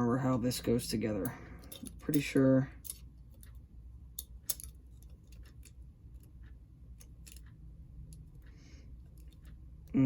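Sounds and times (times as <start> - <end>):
light clicks and taps of small parts: 1.2 - 10.0.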